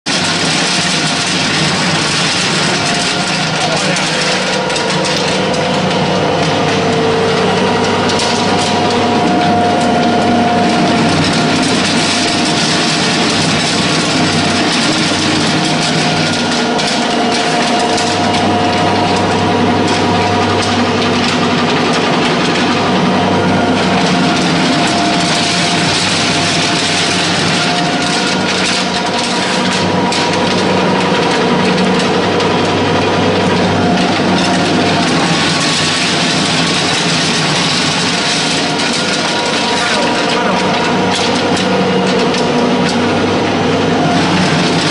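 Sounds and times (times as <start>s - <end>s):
pellet mill grinding and humming: 0.0s - 44.9s.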